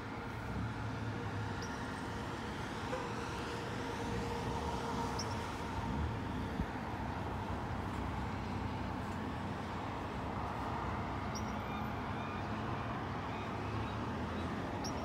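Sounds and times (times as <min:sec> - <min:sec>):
distant city traffic hum: 0:00.0 - 0:15.0.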